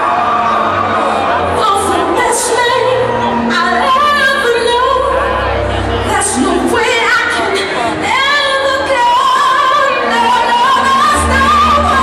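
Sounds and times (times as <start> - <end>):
woman singing: 1.5 - 12.0.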